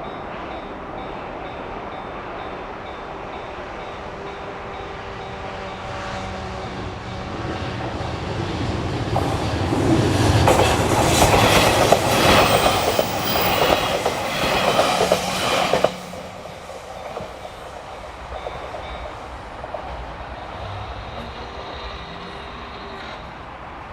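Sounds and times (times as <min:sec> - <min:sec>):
train wheels on rails: 0:00.0 - 0:23.9.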